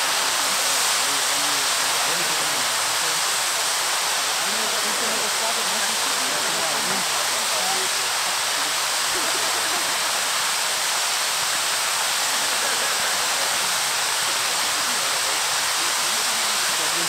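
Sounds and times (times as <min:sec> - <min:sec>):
firework wheels hissing sparks: 0:00.0 - 0:17.0.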